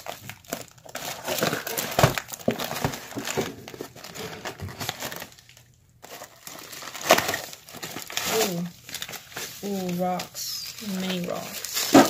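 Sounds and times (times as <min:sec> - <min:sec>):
cardboard crinkling and rustling: 0:00.0 - 0:12.0.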